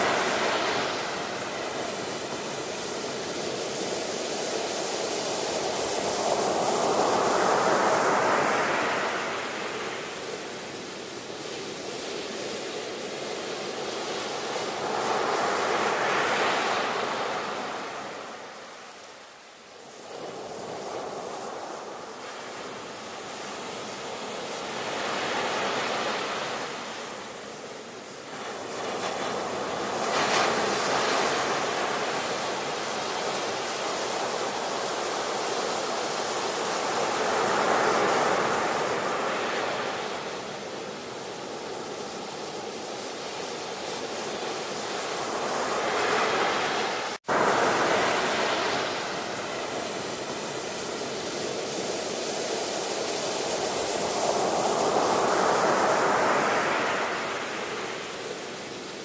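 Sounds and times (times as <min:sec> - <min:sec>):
ocean waves washing in: 0:00.0 - 0:59.0.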